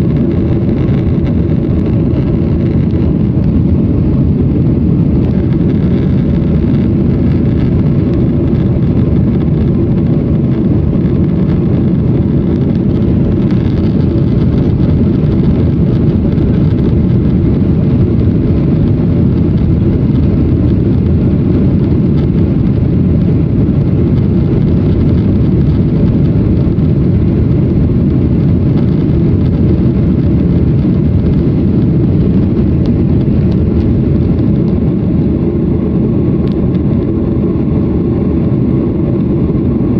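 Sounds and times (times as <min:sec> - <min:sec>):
airflow noise: 0:00.0 - 0:39.9
jet engines droning: 0:00.0 - 0:39.9.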